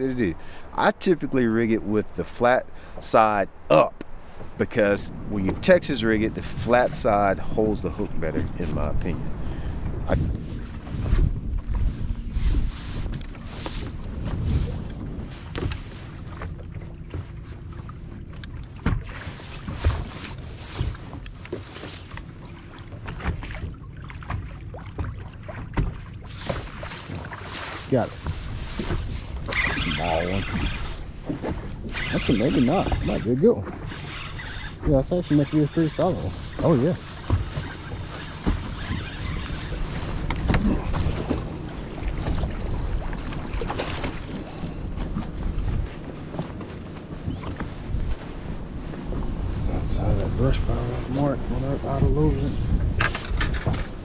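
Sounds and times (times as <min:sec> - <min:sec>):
waves slapping against boat hull: 0:00.0 - 0:54.0
wind rumbling on microphone: 0:00.0 - 0:54.0.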